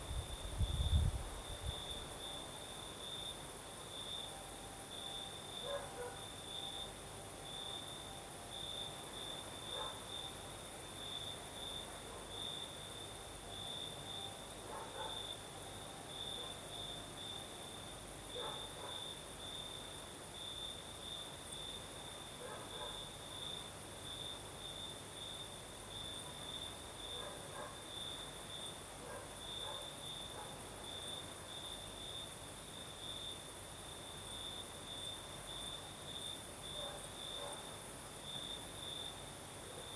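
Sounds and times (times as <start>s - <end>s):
crickets trilling: 0.0s - 39.9s
insect hiss: 0.0s - 39.9s.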